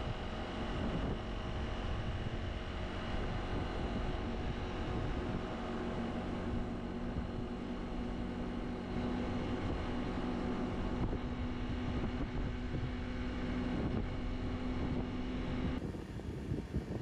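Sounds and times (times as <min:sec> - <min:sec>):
road noise: 0:00.0 - 0:15.8
scooter engine running: 0:00.0 - 0:15.8
wind on microphone: 0:00.0 - 0:17.0.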